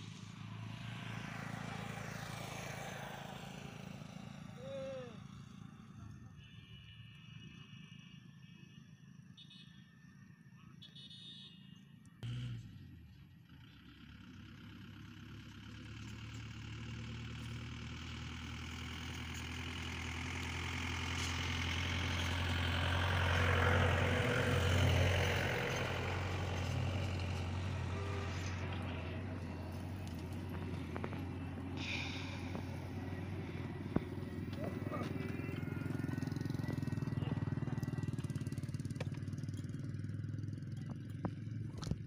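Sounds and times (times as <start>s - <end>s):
low engine hum: 0.0s - 6.3s, 12.2s - 42.0s.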